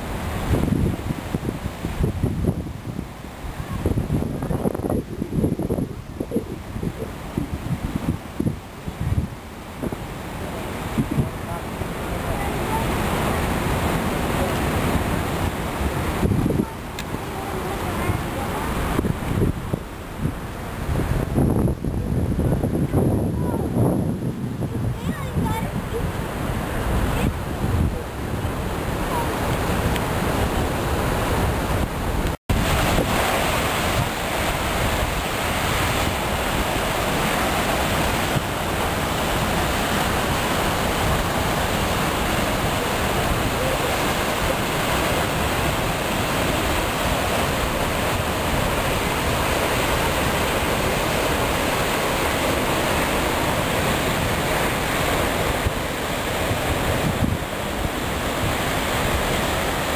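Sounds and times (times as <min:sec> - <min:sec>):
waterfall rushing onto rocks: 0:00.0 - 0:24.3, 0:24.9 - 0:59.9.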